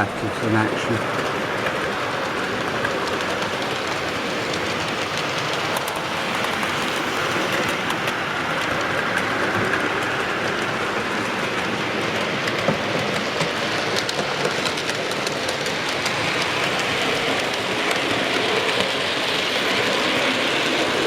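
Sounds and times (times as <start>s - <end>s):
wheels clicking over rail joints: 0.9s - 21.0s.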